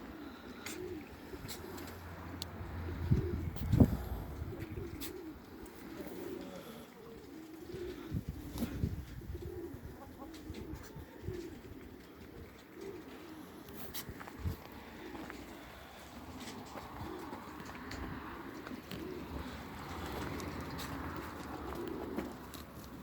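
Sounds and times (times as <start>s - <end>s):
birds cooing: 0.0s - 23.0s.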